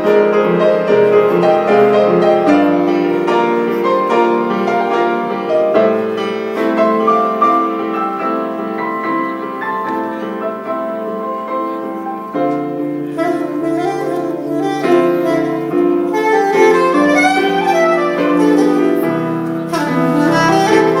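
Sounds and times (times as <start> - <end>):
piano accompaniment: 0.0 - 21.0
saxophone melody: 0.0 - 21.0.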